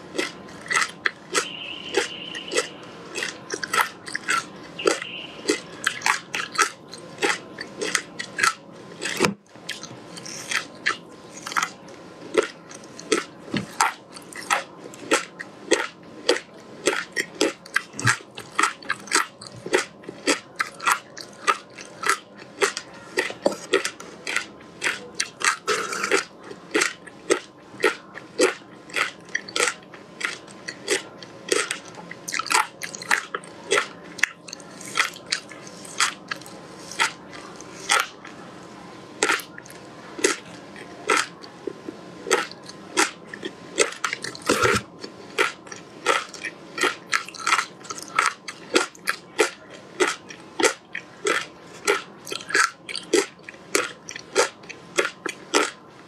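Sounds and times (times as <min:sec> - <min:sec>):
crunching frozen fruit pulp: 0:00.0 - 0:55.9.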